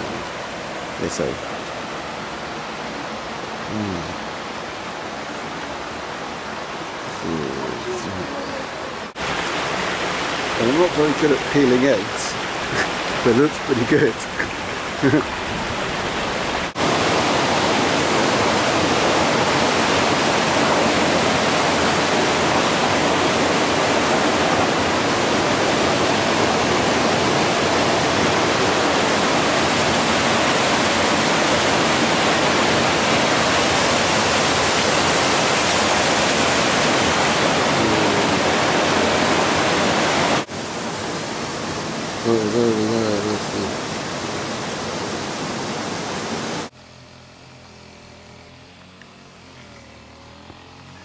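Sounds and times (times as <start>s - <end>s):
water rushing: 0.0s - 46.8s.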